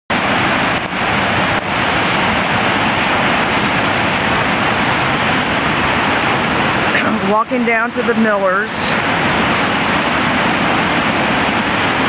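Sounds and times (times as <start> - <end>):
heavy rain: 0.1 - 12.0.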